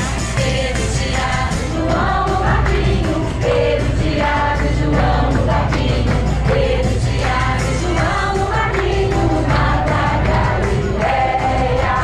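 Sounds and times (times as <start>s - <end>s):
backing music over loudspeakers: 0.0s - 12.0s
group singing praise song: 0.0s - 12.0s.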